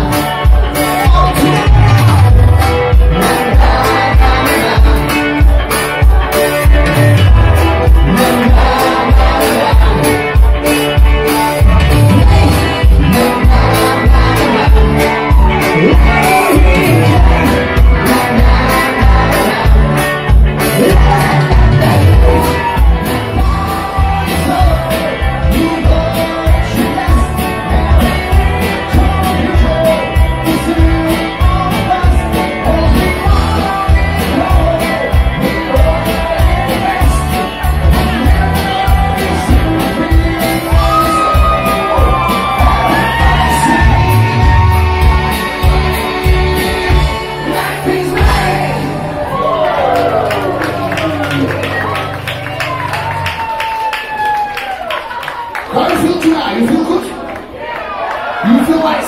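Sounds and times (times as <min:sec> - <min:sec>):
crowd shouting: 0:00.0 - 0:30.3, 0:36.0 - 0:59.0
person singing: 0:00.0 - 0:52.5
live band playing dance music: 0:00.0 - 0:59.0.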